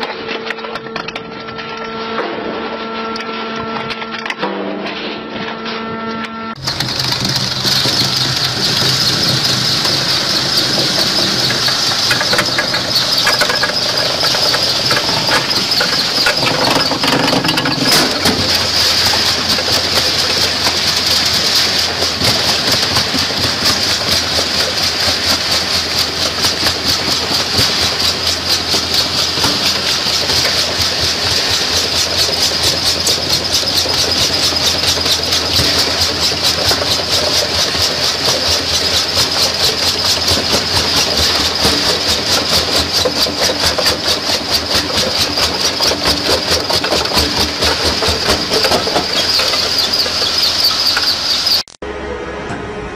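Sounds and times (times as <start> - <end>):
rock crusher rattling: 6.6 - 51.8.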